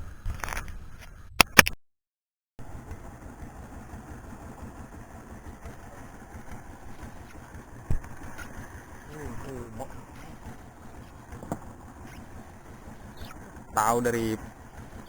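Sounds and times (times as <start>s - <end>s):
boat engine rumbling: 2.6s - 15.0s.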